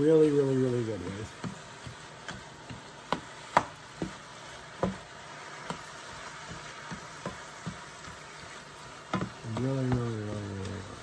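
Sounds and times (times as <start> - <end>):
meat sizzling in a pan: 0.0 - 11.0
utensil clicking against pan: 1.1 - 11.0.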